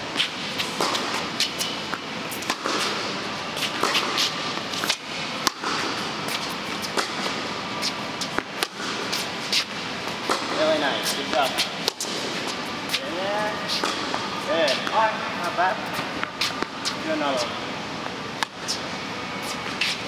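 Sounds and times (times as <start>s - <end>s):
tennis balls struck and bouncing: 0.1s - 15.1s, 15.9s - 17.2s.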